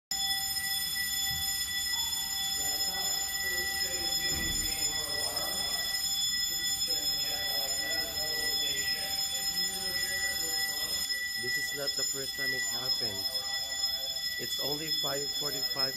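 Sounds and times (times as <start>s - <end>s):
fire alarm high-pitched tone: 0.0s - 15.9s
faint voices murmuring: 1.9s - 15.9s.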